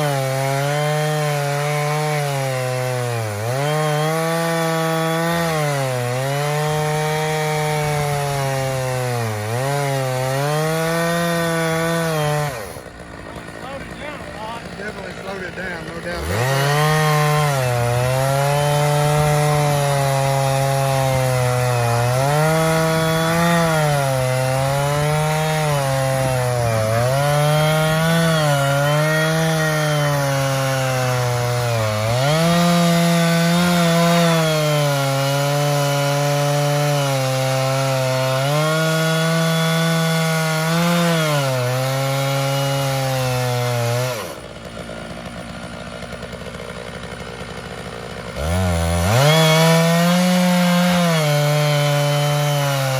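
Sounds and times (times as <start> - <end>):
chainsaw ripping along a log: 0.0 - 52.9.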